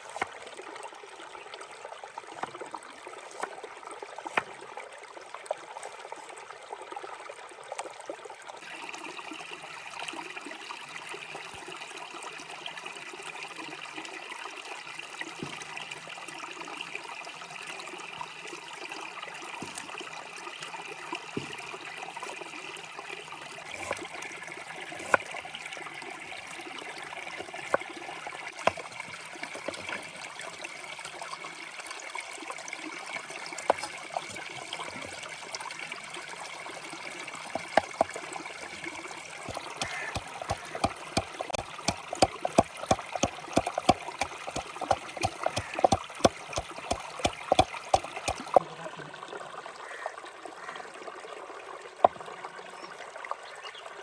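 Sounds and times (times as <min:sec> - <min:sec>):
trickling water-like hiss: 0:01.7 - 0:08.0, 0:08.6 - 0:53.6.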